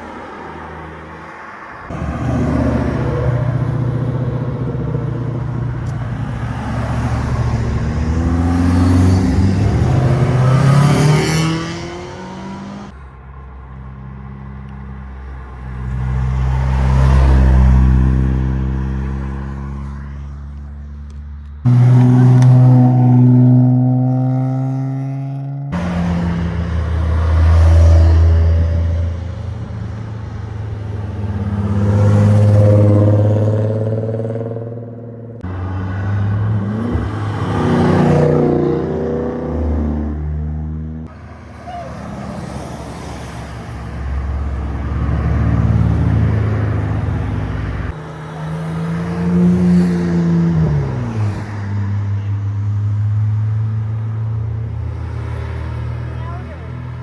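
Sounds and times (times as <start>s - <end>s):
cars driving past revving: 0.0s - 57.0s.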